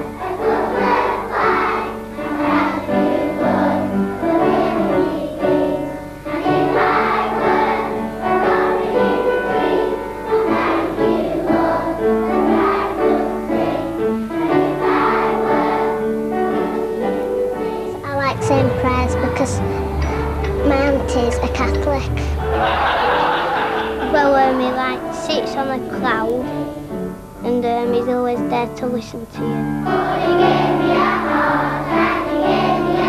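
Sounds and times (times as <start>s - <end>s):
choir singing with accompaniment: 0.0s - 24.8s, 29.8s - 33.0s.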